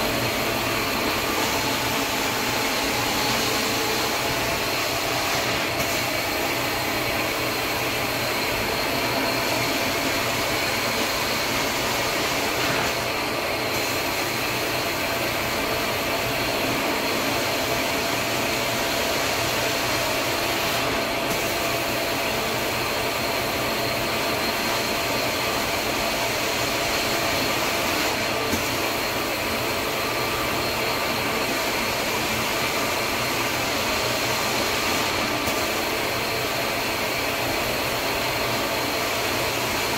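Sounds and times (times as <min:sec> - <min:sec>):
carpet extraction machine whining: 0:00.0 - 0:39.9.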